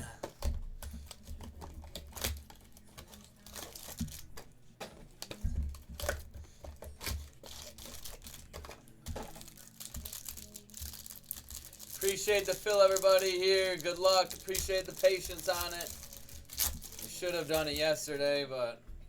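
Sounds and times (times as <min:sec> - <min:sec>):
card packaging tearing and crinkling: 0:00.4 - 0:18.3.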